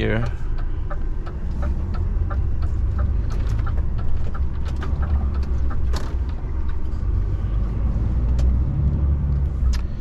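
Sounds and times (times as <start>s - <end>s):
diesel truck engine rumbling: 0.0s - 10.0s.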